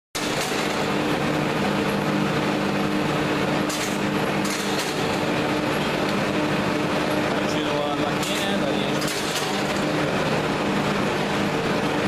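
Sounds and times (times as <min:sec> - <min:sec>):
brick extruder humming: 0:00.2 - 0:12.0.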